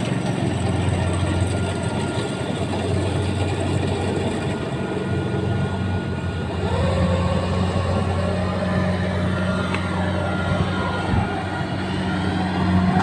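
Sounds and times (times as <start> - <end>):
combine harvester engine hum: 0.0 - 13.0.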